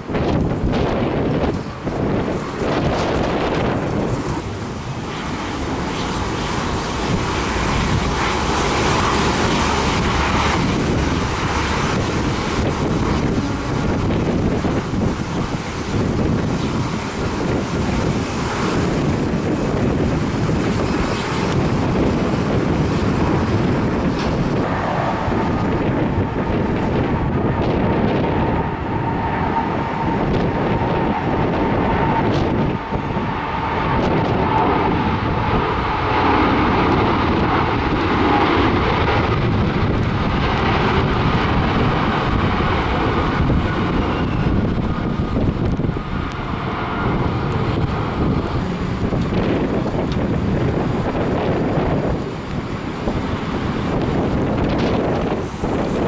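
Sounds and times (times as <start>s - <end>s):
jet engines passing: 0.0s - 56.0s
wind buffeting microphone: 0.0s - 56.0s.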